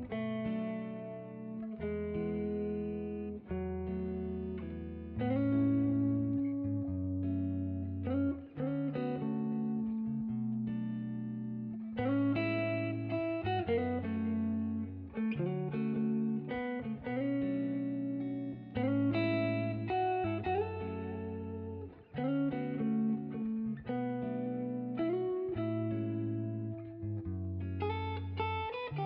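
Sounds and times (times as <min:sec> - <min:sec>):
plucked guitar music: 0:00.0 - 0:29.0.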